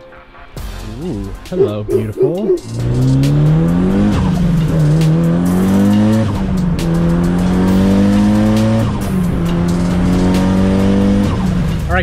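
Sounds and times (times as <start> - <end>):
car engine accelerating through gears: 1.6 - 11.9.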